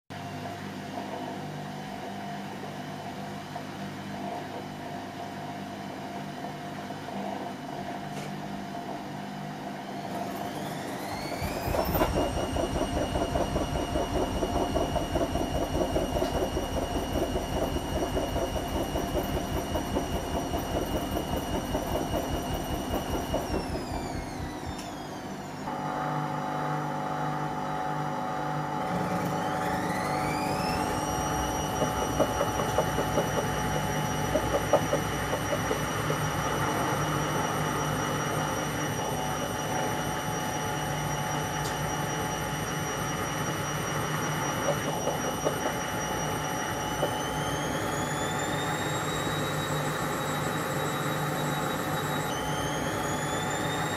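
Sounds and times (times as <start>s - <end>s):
washing machine spinning: 0.1s - 53.9s.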